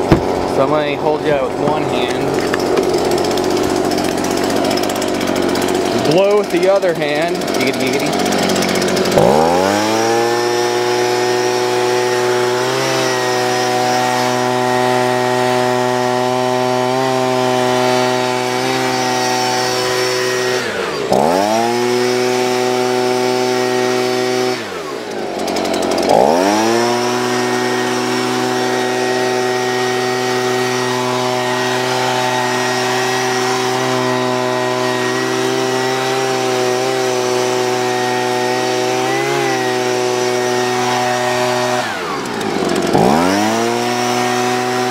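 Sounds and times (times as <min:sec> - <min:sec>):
leaf blower engine revving: 0:00.0 - 0:44.9.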